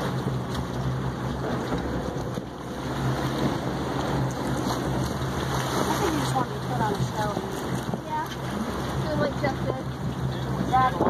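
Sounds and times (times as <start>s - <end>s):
boat engine humming: 0.0s - 11.0s
water rushing: 0.0s - 11.0s
wind: 0.0s - 11.0s.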